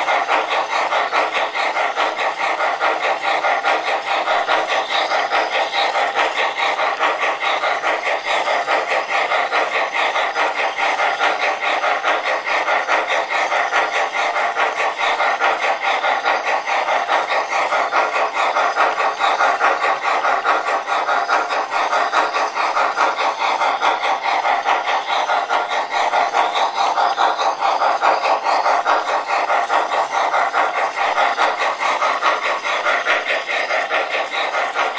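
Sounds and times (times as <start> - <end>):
model train steam chuff: 0.0 - 34.9
wheels rolling on track: 0.0 - 34.9.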